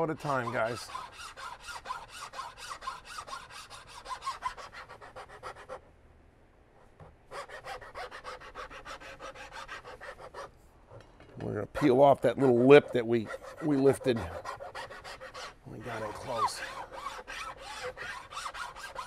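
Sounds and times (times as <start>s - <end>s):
file rasping on wood: 0.0s - 5.8s, 7.3s - 10.5s, 11.8s - 19.0s.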